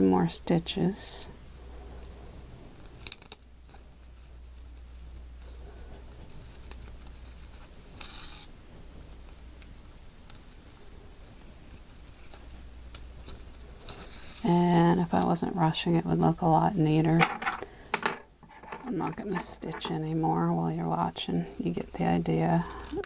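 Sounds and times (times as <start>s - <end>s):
steady low hum: 0.0s - 23.0s
ribbon rustling: 1.4s - 23.0s.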